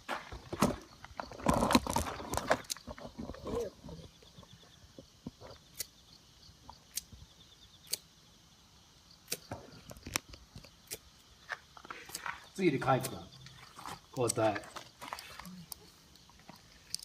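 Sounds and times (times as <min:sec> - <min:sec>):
faint high-pitched hiss: 0:02.2 - 0:17.0.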